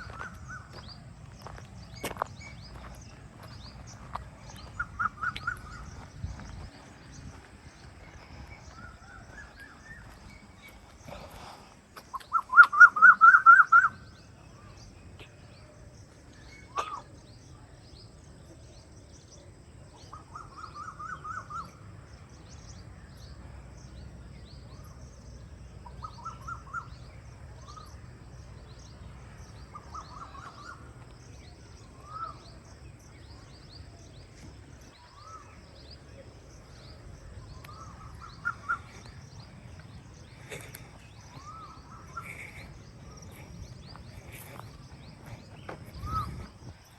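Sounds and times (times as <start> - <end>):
faint high bird chirping: 0.0 - 46.9.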